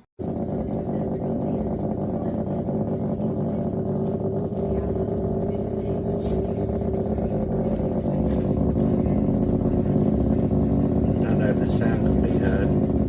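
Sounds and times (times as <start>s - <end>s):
fridge cooling unit humming: 0.0s - 13.0s.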